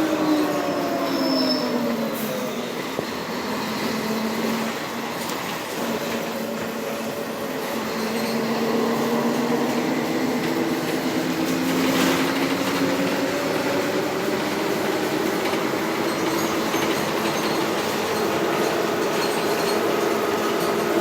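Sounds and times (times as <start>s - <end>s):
bus drivetrain whine: 0.0s - 21.0s.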